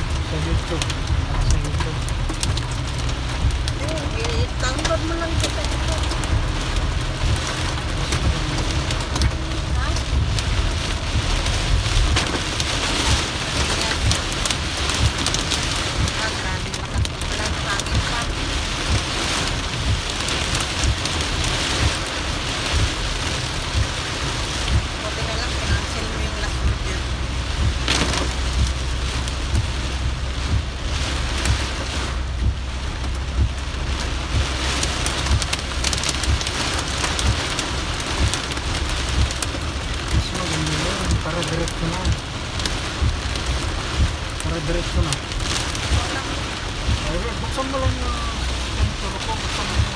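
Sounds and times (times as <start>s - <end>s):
heavy rain pelting down: 0.0s - 49.9s
low thumps: 0.0s - 49.9s
strong wind rumble: 0.0s - 49.9s.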